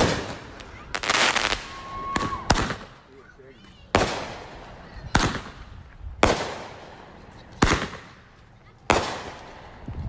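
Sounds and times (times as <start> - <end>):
fireworks bangs with echo: 0.0 - 3.1, 3.9 - 10.0.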